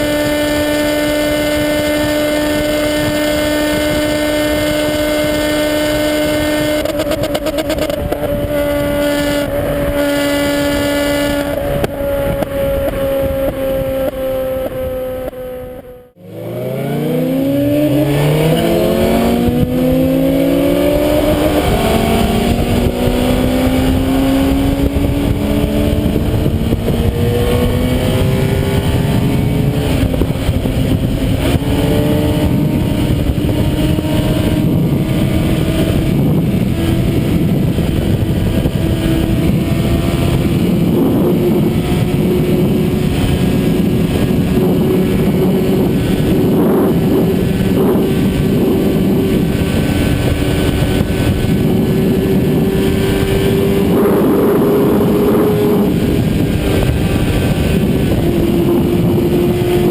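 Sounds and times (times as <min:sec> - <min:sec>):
car engine at full throttle: 0:00.0 - 0:59.9.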